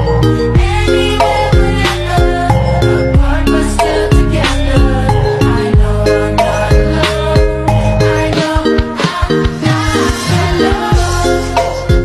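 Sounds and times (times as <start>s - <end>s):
background music with heavy bass: 0.0s - 12.0s.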